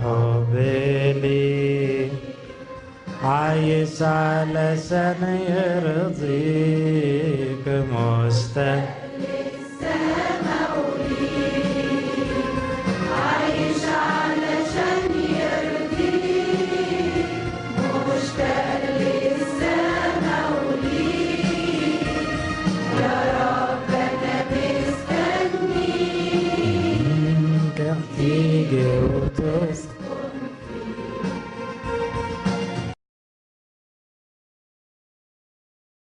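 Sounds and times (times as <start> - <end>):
choir singing hymn: 0.0 - 31.9.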